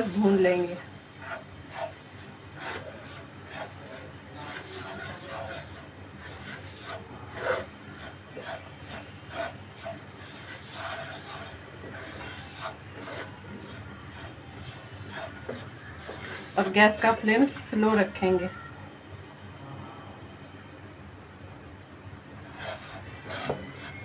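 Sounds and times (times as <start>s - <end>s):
spatula scraping a wok: 0.0s - 18.2s, 22.3s - 24.0s.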